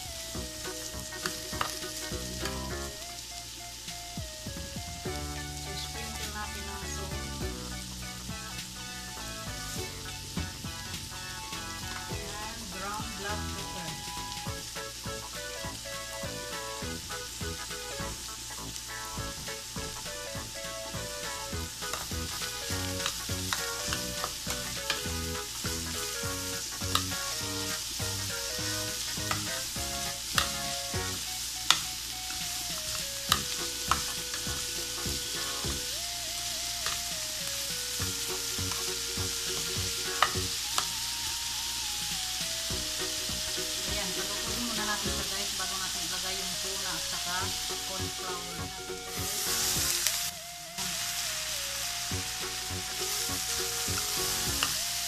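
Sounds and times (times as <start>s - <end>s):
vegetables sizzling in pan: 0.0s - 55.0s.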